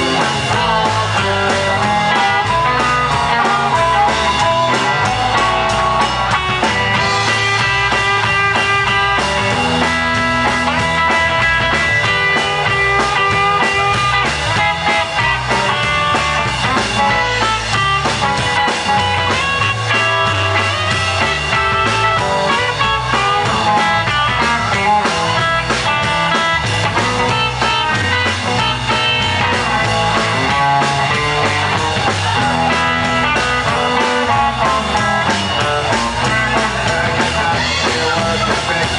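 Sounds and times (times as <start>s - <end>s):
blues band playing: 0.0s - 38.9s
blues harmonica bending notes: 0.0s - 38.9s.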